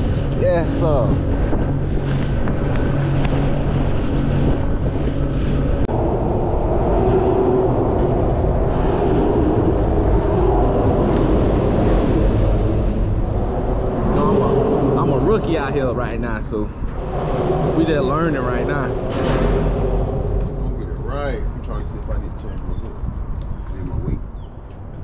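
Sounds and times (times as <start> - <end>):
boat engine running: 0.0 - 24.2
wind buffeting microphone: 0.0 - 25.0.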